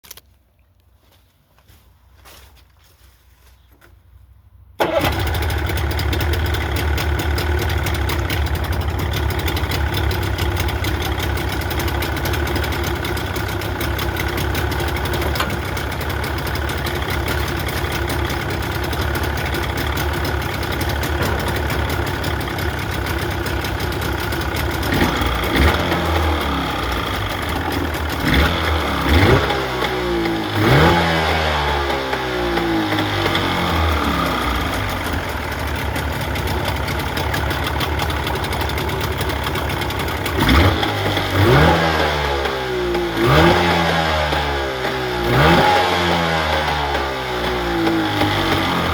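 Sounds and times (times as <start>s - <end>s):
outboard motor idling and revving: 4.8s - 48.9s.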